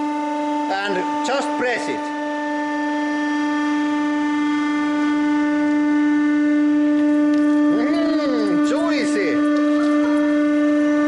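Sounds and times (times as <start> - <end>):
hydraulic pump humming: 0.0 - 11.0.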